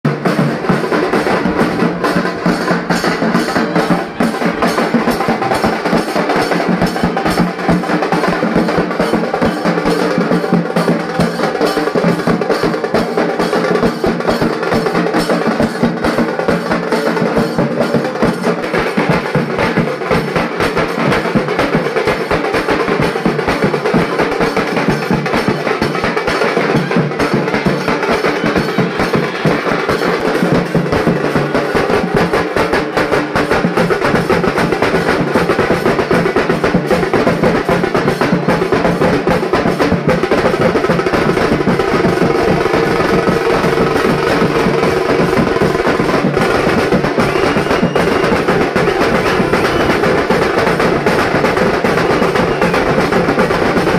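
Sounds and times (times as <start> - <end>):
music with fast drum beat: 0.0 - 53.9.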